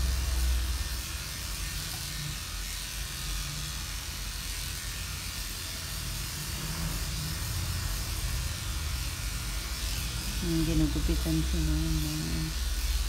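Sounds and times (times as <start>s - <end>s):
electric clipper buzzing: 0.0s - 13.0s.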